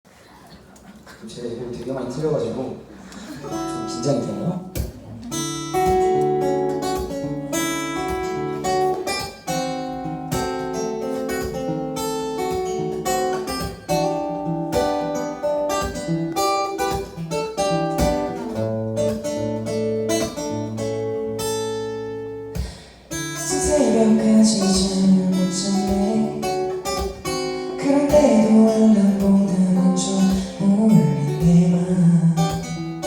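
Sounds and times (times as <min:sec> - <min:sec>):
acoustic guitar playing: 0:02.7 - 0:33.0.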